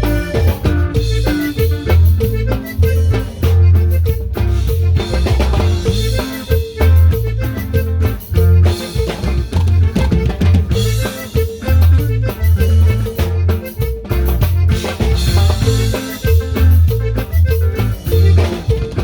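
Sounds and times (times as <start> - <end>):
deep bass line: 0.0 - 19.0
drum kit: 0.0 - 19.0.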